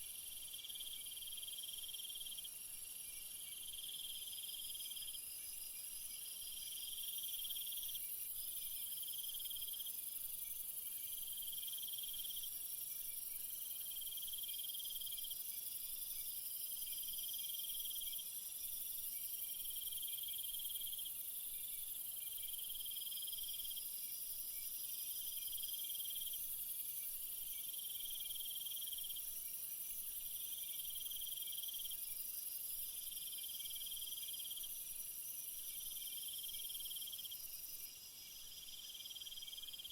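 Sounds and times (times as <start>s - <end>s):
insects chirping trills: 0.0s - 39.9s.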